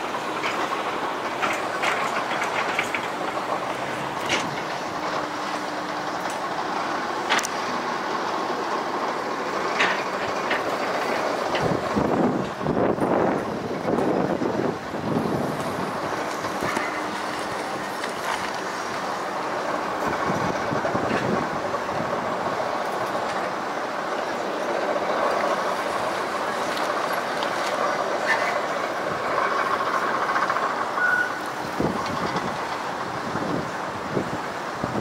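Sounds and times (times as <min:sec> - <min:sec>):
excavator engine and hydraulics: 0:00.0 - 0:35.0.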